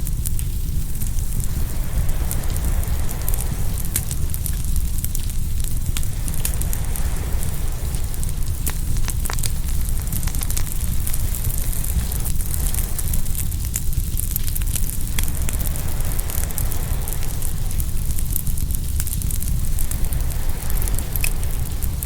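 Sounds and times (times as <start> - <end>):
low rumble: 0.0 - 22.0
wood fire crackling and popping: 0.0 - 22.0.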